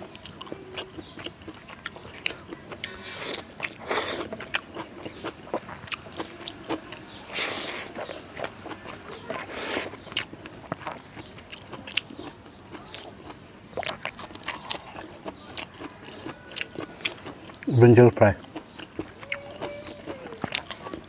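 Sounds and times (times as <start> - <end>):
close-miked chewing: 0.0 - 21.0.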